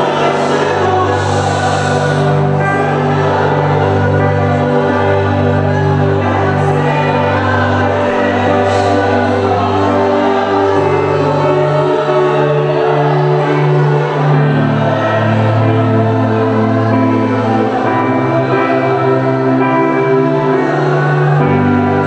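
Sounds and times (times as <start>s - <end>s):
gospel choir singing: 0.0s - 22.0s.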